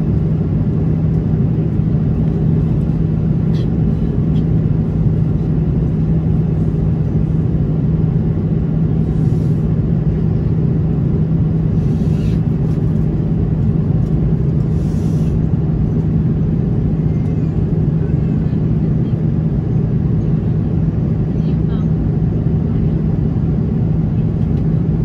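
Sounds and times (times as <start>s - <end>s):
air rushing past aircraft: 0.0s - 21.3s
jet engine hum: 0.0s - 25.0s.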